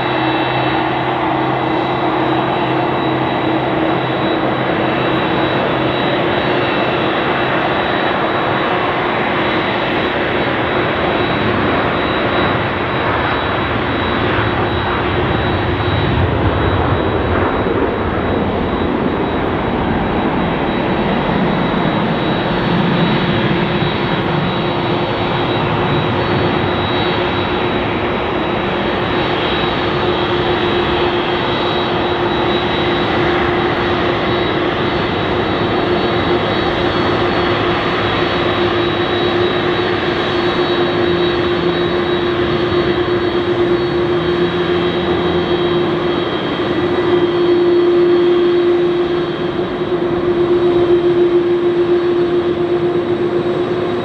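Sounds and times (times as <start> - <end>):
jet engines rumbling with high whine: 0.0 - 54.0.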